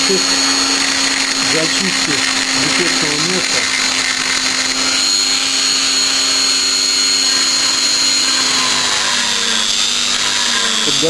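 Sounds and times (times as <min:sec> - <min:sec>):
rotary grinder whining: 0:00.0 - 0:11.0.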